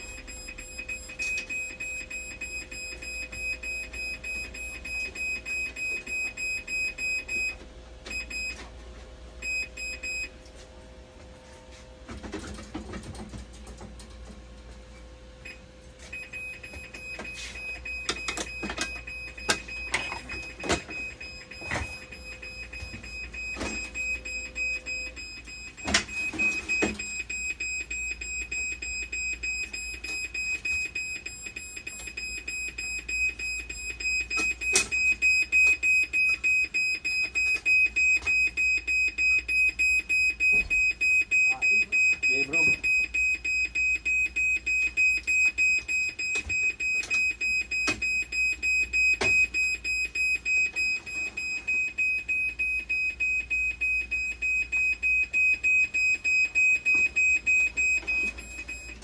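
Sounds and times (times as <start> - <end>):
dialysis machine alarm beep: 0.0 - 8.7, 9.4 - 10.4, 15.4 - 59.0.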